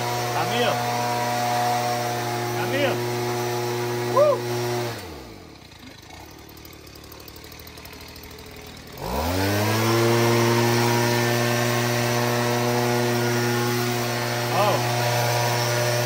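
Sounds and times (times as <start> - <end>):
blender motor humming: 0.0 - 16.0.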